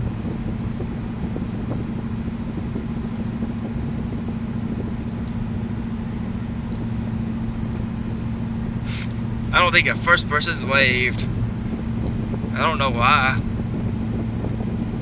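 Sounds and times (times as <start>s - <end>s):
car interior engine and road drone: 0.0s - 15.0s
constant hum: 0.0s - 15.0s.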